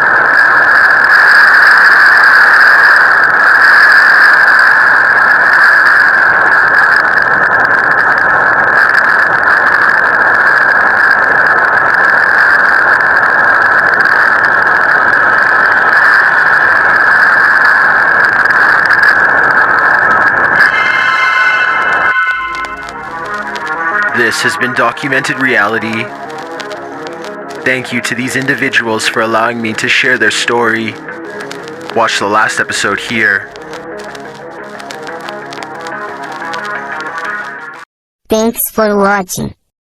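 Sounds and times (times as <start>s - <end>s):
tornado wind rushing: 0.0s - 37.8s.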